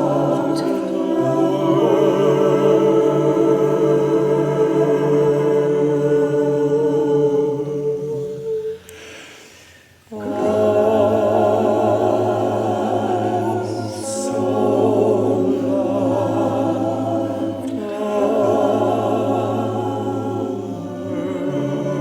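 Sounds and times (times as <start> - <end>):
choir singing in harmony: 0.0 - 9.0, 10.0 - 22.0.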